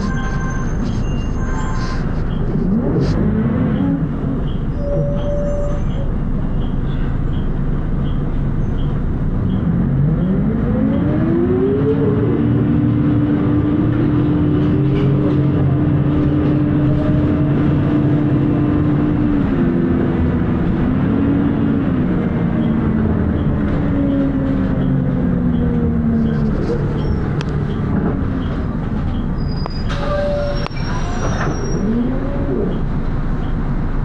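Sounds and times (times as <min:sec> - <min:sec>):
bus diesel engine shifting gears: 0:00.0 - 0:06.5, 0:09.2 - 0:34.0.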